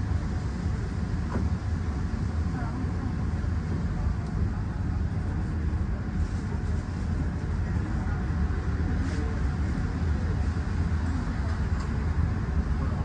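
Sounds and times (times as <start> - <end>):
tram hum and rumble: 0.0 - 13.0.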